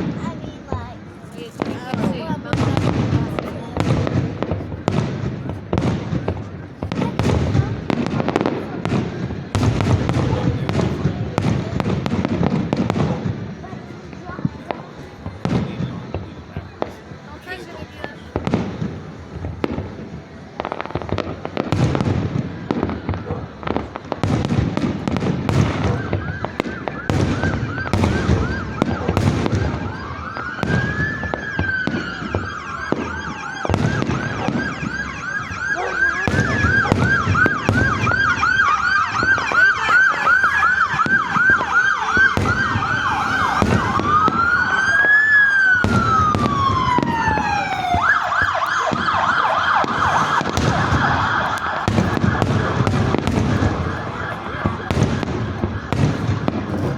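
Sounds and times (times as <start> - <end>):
fireworks banging: 0.0 - 56.9
emergency vehicle siren: 1.6 - 13.4, 18.4 - 56.9.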